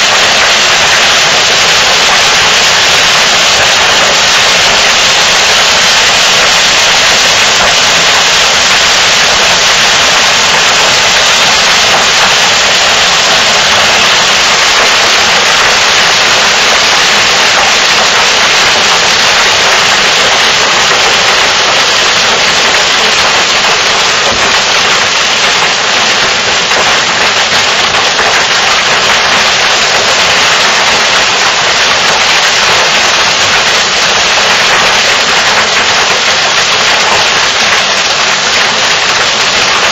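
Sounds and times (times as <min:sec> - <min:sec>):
hail and heavy rain falling: 0:00.0 - 0:39.9.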